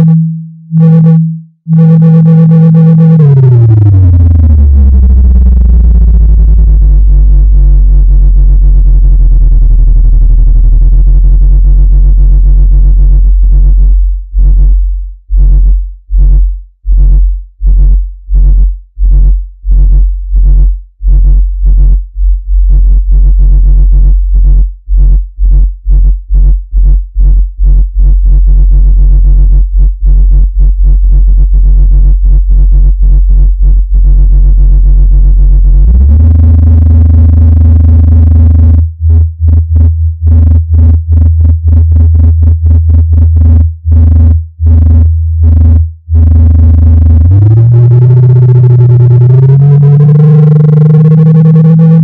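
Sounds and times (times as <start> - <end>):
low buzzing speaker-cleaning tone: 0.0 - 52.0.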